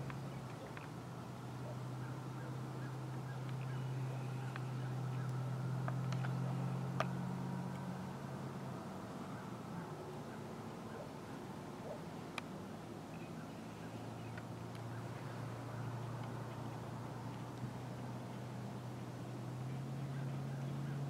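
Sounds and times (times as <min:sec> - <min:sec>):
distant engine low hum: 0:00.0 - 0:21.0.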